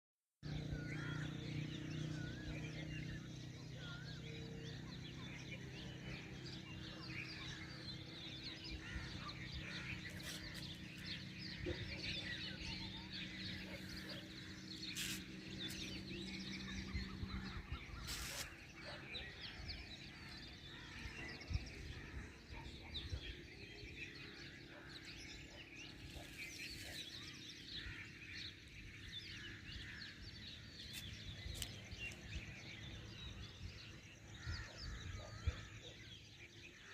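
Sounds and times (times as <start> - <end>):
birds chirping: 0.4 - 36.9.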